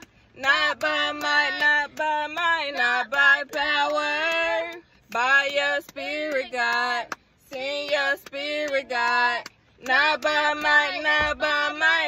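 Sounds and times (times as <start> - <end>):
woman singing slow chorus: 0.4 - 12.0.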